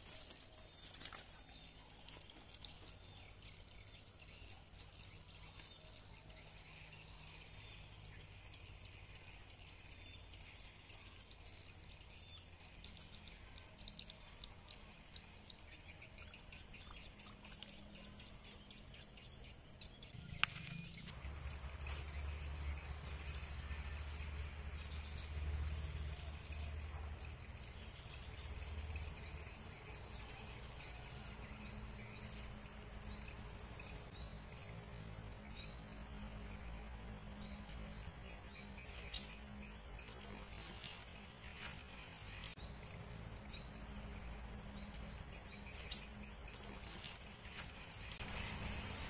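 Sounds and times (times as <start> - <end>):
insects chirping: 0.0 - 49.0
high-pitched insect buzz: 1.6 - 49.0.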